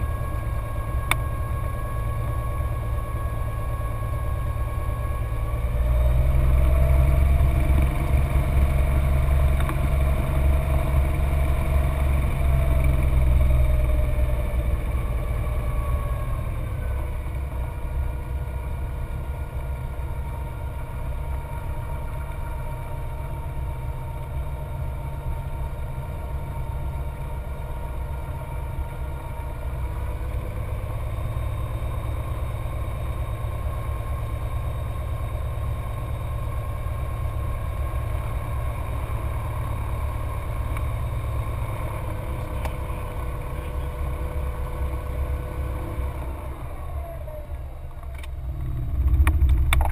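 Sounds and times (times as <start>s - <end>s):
aircraft engine and propeller running: 0.0s - 49.9s.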